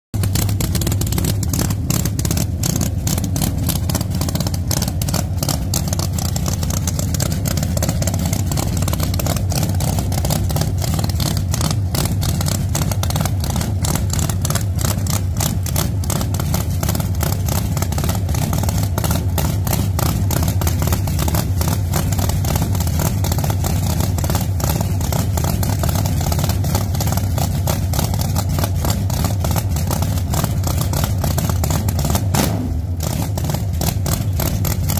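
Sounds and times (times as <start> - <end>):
race car engine idling: 0.1 - 34.9.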